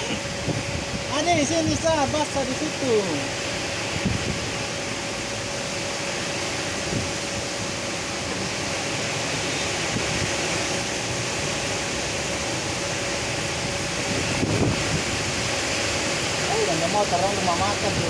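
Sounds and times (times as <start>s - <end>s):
heavy rain: 0.0s - 18.0s
wind: 0.0s - 18.0s.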